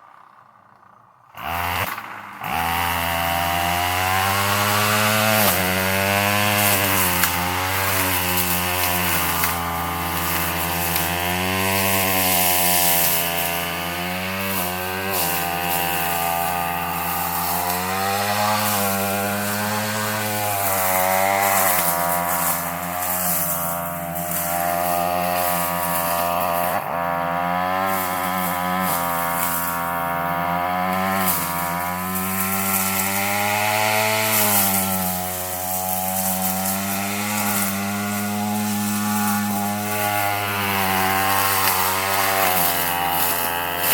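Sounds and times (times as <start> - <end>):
weed eater engine revving: 0.0 - 43.9
blade cutting through brush: 1.3 - 43.9.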